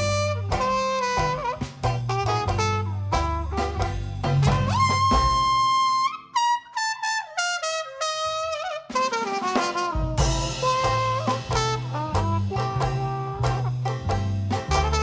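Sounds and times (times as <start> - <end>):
jazz band playing: 0.0 - 15.0
jazz trumpet solo: 0.0 - 15.0.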